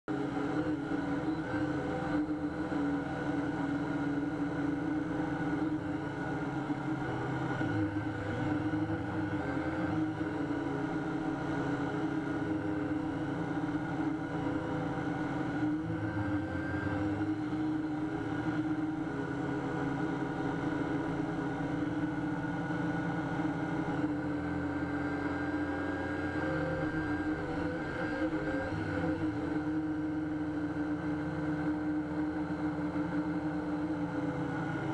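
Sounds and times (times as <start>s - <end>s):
drone propellers whirring: 0.1s - 34.9s.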